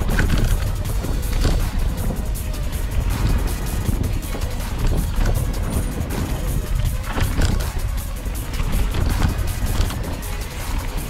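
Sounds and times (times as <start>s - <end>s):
mountain bike rattling on trail: 0.0s - 11.0s
music: 0.0s - 11.0s
wind rumbling on microphone: 0.0s - 11.0s.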